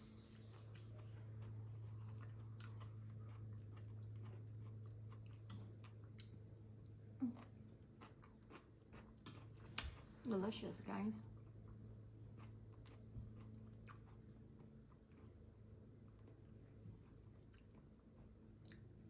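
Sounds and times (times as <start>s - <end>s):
chewing with mouth clicks: 0.0s - 10.3s, 11.3s - 19.0s
steady low hum: 0.0s - 19.0s.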